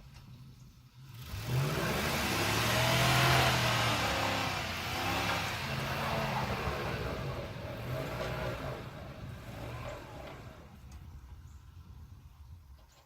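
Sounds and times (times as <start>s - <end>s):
truck engine revving: 1.0s - 12.0s
tires spinning on snow: 1.0s - 12.6s.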